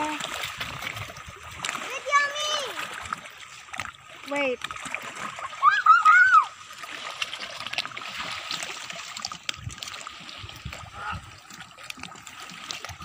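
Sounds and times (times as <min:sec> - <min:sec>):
seawater lapping among rocks: 0:00.0 - 0:13.0.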